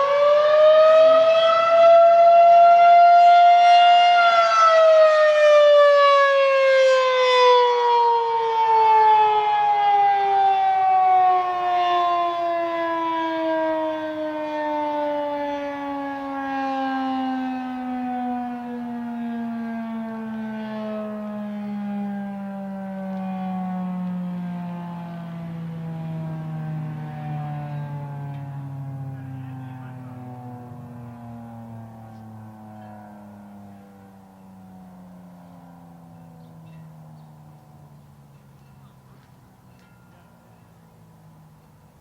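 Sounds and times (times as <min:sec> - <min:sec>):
warning siren winding down: 0:00.0 - 0:42.0.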